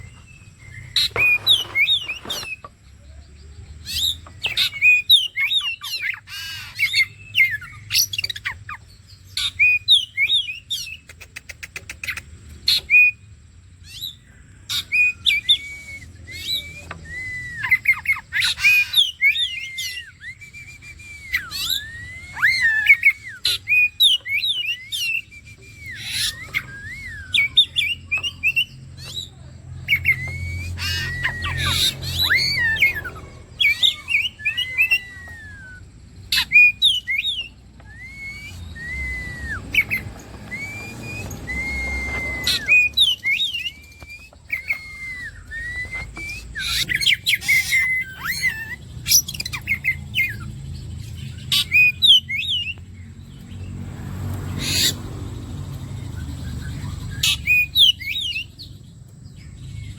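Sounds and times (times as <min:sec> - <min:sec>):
magpie-robin singing: 0:00.0 - 0:11.2, 0:13.8 - 0:59.9.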